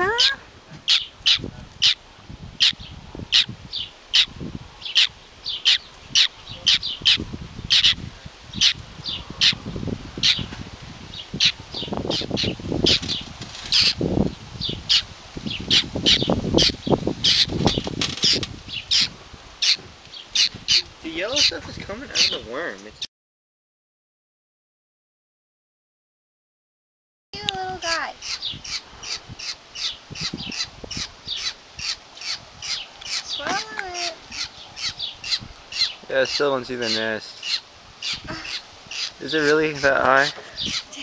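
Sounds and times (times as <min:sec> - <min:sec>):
baby bird cheeping: 0:00.0 - 0:02.0, 0:02.6 - 0:10.5, 0:11.1 - 0:14.0, 0:14.6 - 0:22.4, 0:27.4 - 0:36.4, 0:37.4 - 0:41.0.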